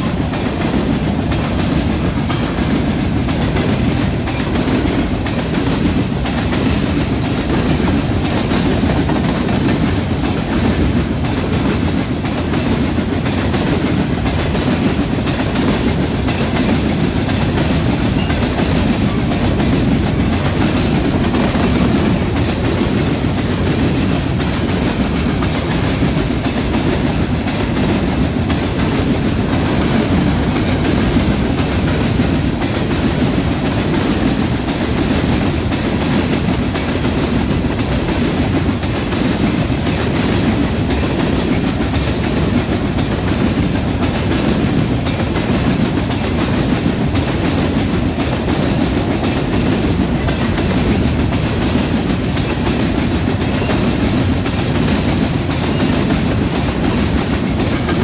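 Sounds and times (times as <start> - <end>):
freight train wheels rumbling: 0.0 - 58.0
wheels clacking over track: 0.0 - 58.0.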